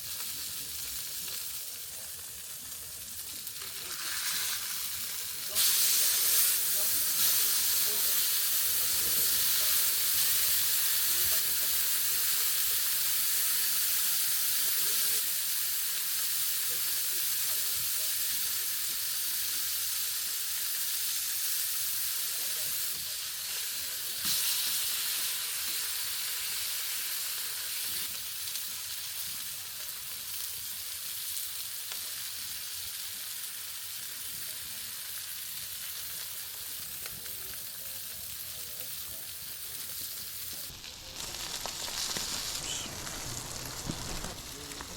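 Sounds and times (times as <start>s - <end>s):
meat sizzling on a grill: 0.0s - 44.9s.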